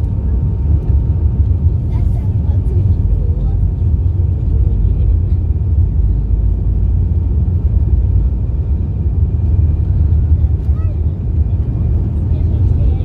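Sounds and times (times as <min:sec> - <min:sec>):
low rumble of jet cabin: 0:00.0 - 0:13.0.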